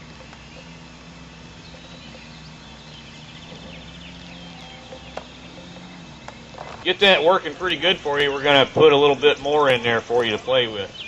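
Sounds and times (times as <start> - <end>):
bird trill: 0.0 - 11.0
birds chirping: 0.0 - 11.0
steady low hum: 0.0 - 11.0.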